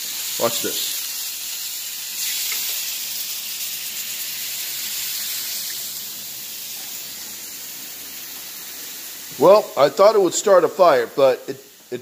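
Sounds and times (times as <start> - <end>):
frying sizzling hiss: 0.0 - 12.0.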